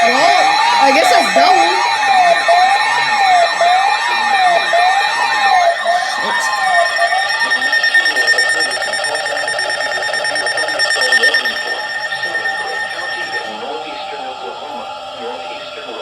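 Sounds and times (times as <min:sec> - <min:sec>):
warbling siren alert tone: 0:00.0 - 0:13.8
rapidly pulsing alarm tone: 0:00.0 - 0:16.0.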